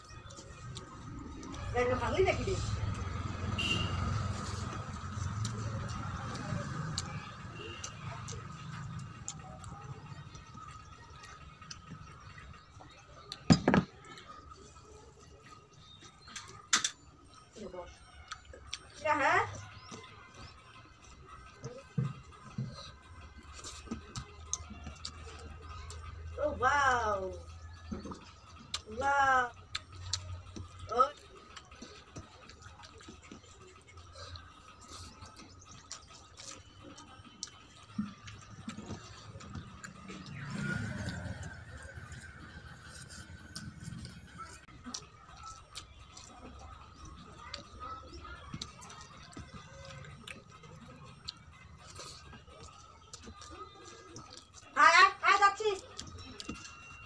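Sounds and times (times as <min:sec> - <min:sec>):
chewing and mouth sounds: 0:00.0 - 0:17.2, 0:17.8 - 0:26.4, 0:27.4 - 0:55.2, 0:55.8 - 0:57.0.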